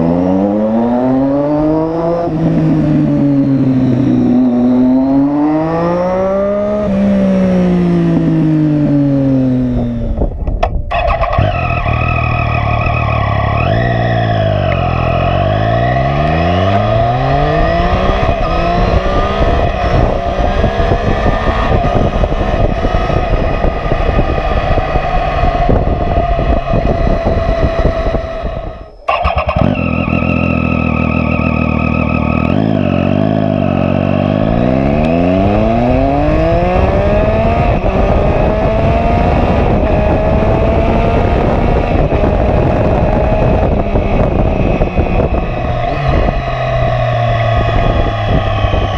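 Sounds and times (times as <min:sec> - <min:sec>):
loud motorcycle engine accelerating: 0:00.0 - 0:48.9.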